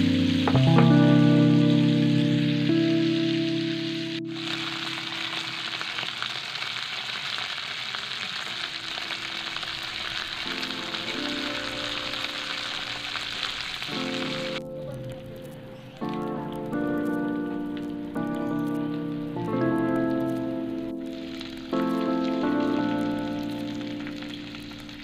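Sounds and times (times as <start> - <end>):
soft background music: 0.0 - 5.7, 10.3 - 25.0
chicken sizzling in a frying pan: 0.0 - 14.6, 16.8 - 25.0.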